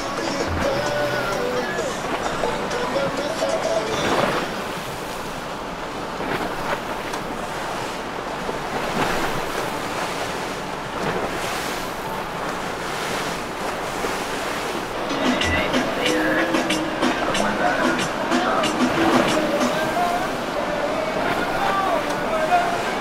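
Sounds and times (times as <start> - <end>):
rushing sea water: 0.0 - 23.0.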